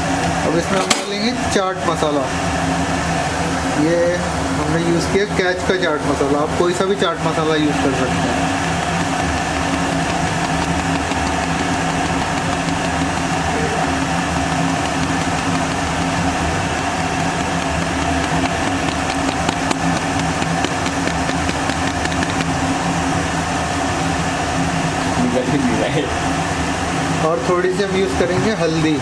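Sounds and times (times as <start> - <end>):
electric fan motor humming: 0.0 - 29.0.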